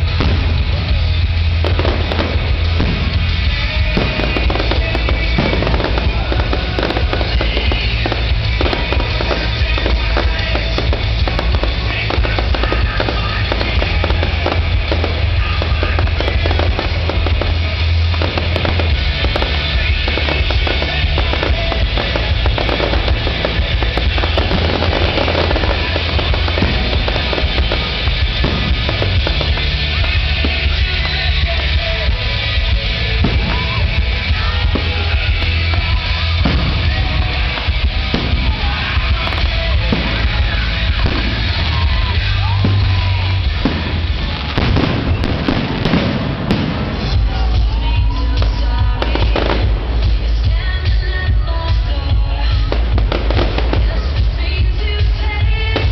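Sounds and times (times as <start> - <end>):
fireworks bangs and crackling: 0.0 - 55.9
loud bass-heavy music: 0.0 - 55.9.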